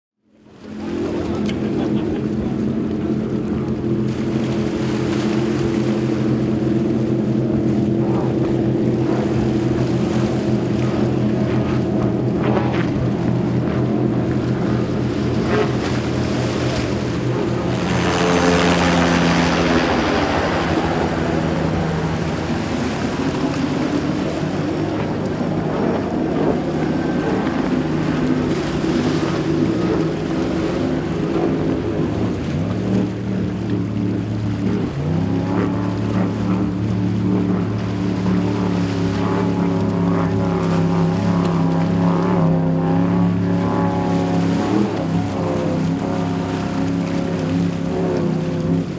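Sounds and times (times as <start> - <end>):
outboard engine running hard: 0.2 - 48.9.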